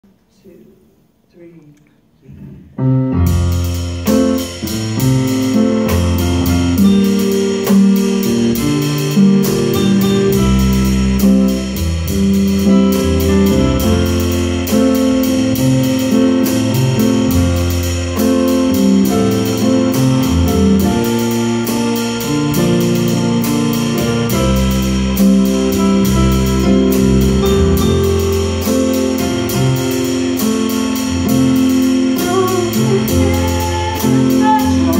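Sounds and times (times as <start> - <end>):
electronic keyboard chords: 2.9 - 34.9
drum and cymbal beat: 3.3 - 34.9.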